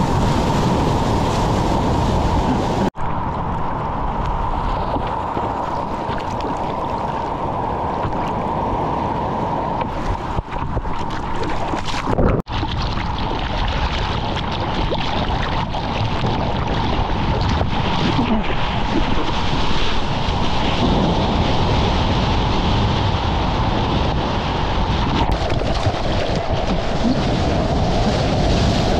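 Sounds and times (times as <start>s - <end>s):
ocean surf: 0.0s - 12.8s, 16.8s - 28.9s
wind buffeting the microphone: 0.0s - 28.9s.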